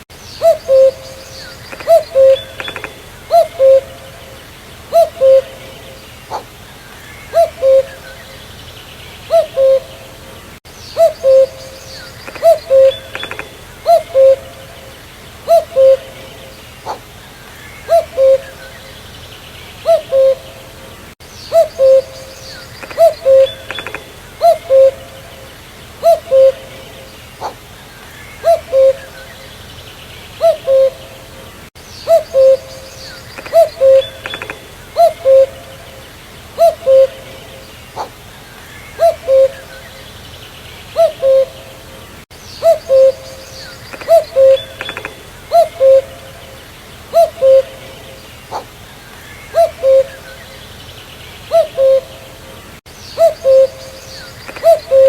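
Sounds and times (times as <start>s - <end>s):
small birds chirping: 0.0s - 55.0s
cuckoo calling: 0.2s - 19.1s, 19.8s - 29.6s, 30.4s - 40.2s, 40.8s - 50.8s, 51.4s - 55.0s.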